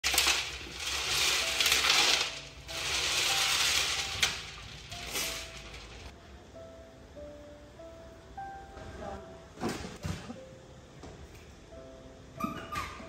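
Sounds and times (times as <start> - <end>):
soft melody: 0.7 - 13.0.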